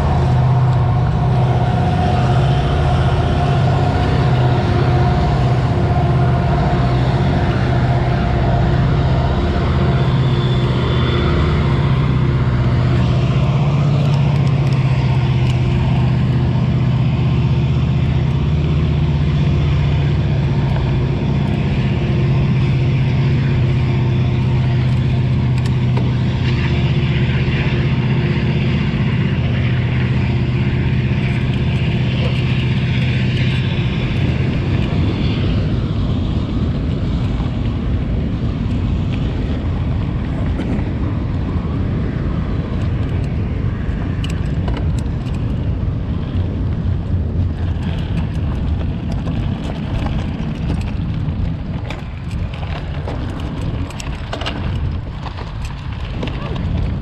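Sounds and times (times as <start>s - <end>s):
bike tyres rumbling on dirt: 0.0s - 57.0s
low engine-like hum: 0.0s - 57.0s
wind on microphone: 0.0s - 57.0s.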